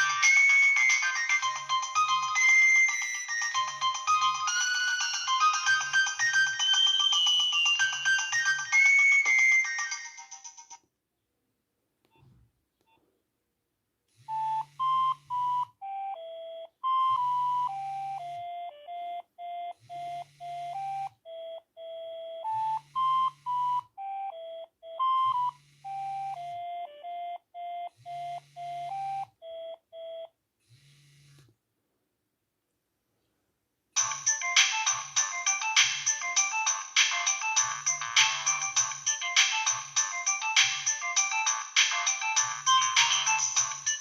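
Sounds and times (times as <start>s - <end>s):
phone ringtone melody: 0.0s - 10.8s, 14.3s - 30.3s, 34.0s - 44.0s.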